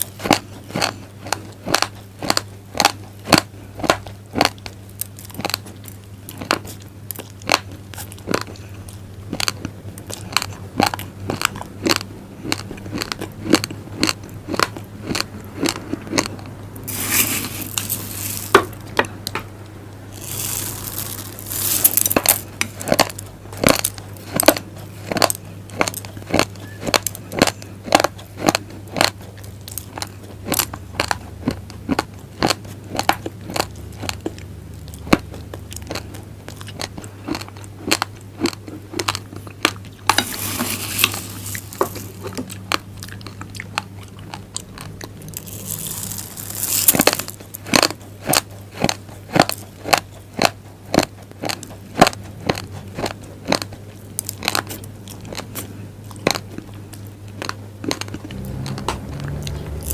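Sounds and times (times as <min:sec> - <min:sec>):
rice grains crunching when chewed: 0:00.0 - 0:19.4, 0:20.0 - 0:59.9
low steady hum: 0:00.0 - 0:59.9.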